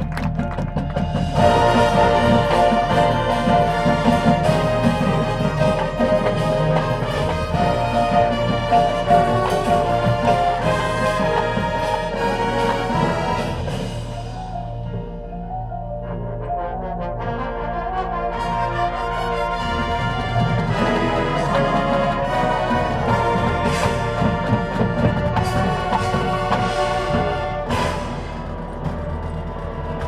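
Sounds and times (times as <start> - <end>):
drumline and percussion: 0.0 - 15.2, 18.3 - 30.0
brass sustained chords: 0.0 - 30.0.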